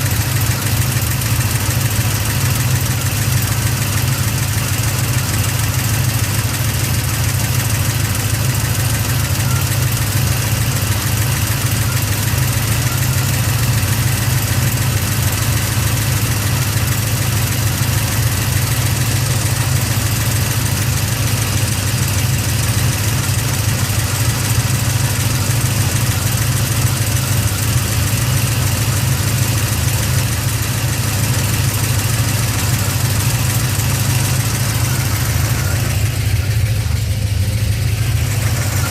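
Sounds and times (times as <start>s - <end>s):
engine idling: 0.0s - 38.9s
engine lifter ticking: 0.0s - 38.9s.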